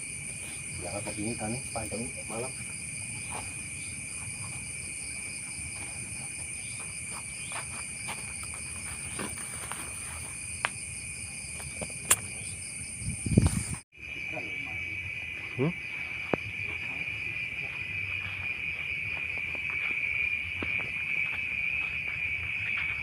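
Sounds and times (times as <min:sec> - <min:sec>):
crickets and insects trilling: 0:00.0 - 0:23.0.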